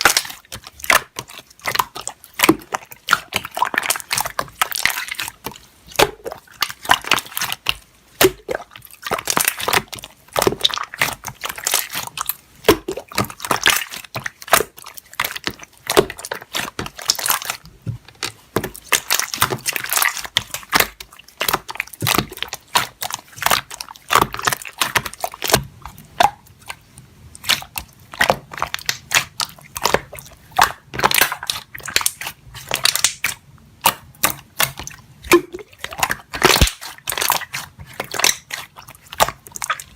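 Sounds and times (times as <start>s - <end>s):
slime kneaded with sticky pops: 0.0s - 39.9s.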